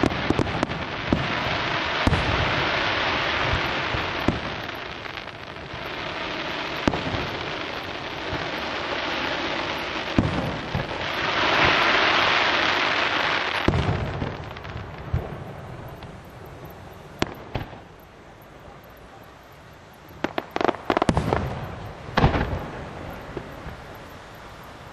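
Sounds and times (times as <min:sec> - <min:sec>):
fireworks crackling hiss: 0:00.0 - 0:24.9.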